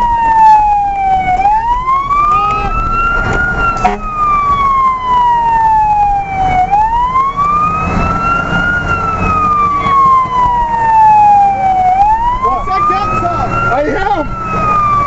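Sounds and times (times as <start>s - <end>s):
siren wailing: 0.0s - 15.0s
truck engine rumbling: 0.0s - 15.0s.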